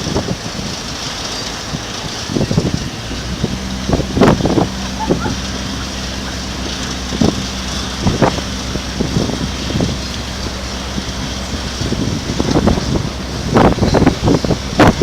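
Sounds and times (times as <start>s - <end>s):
boat engine droning: 0.0s - 15.0s
wind noise on microphone: 0.0s - 15.0s.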